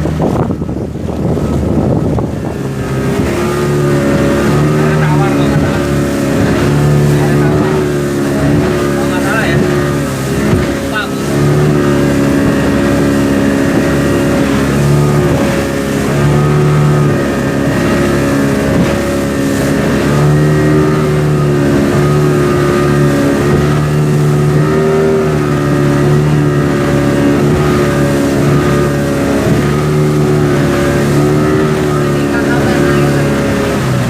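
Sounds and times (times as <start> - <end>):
motorboat engine drone: 0.0 - 34.0.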